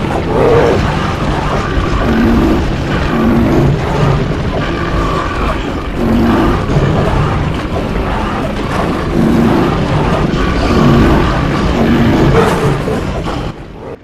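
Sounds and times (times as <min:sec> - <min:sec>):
cartoon stampede rumble: 0:00.0 - 0:14.0.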